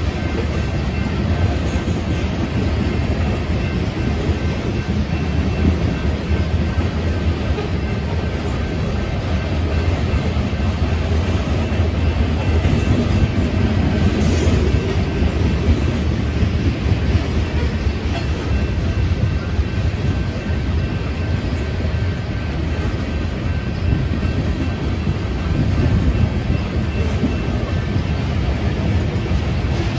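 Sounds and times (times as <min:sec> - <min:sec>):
freight train wheels rumbling on rails: 0:00.0 - 0:29.9.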